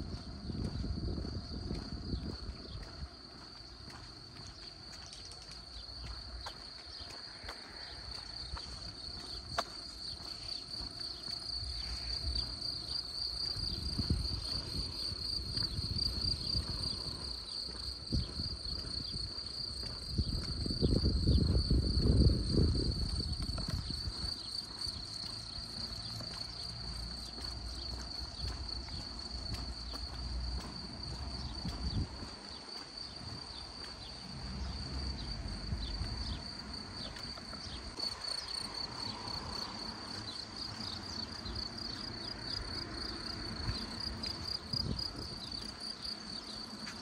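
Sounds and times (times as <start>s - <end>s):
crickets chirping: 0.0s - 47.0s.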